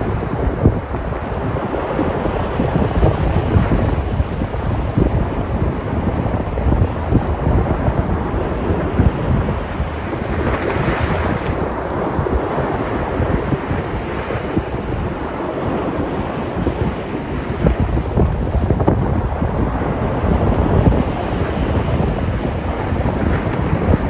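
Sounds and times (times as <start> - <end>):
sea surf washing ashore: 0.0 - 24.0
wave breaking: 0.0 - 24.0
wind buffeting microphone: 0.0 - 24.0.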